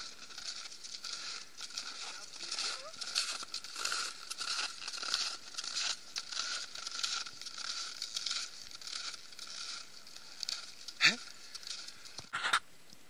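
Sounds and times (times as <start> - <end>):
footsteps crunching in snow: 0.0 - 12.6.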